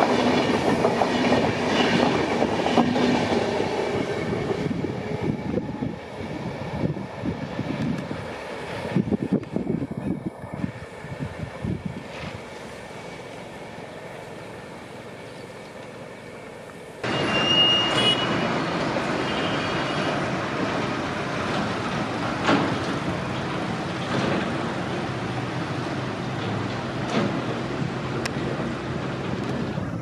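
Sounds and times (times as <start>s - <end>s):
diesel locomotive engine running: 0.0s - 30.0s
distant train rumble: 0.0s - 30.0s
steel wheels on rails: 0.0s - 30.0s.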